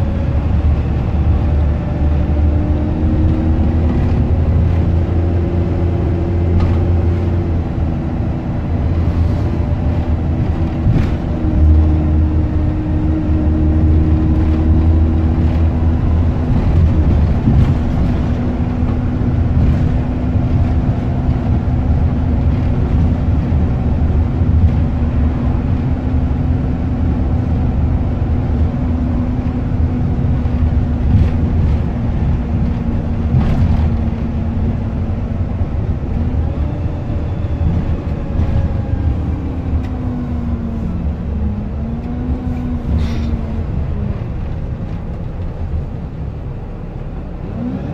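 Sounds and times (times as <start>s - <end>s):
bus engine drone: 0.0s - 47.9s
road rumble: 0.0s - 47.9s.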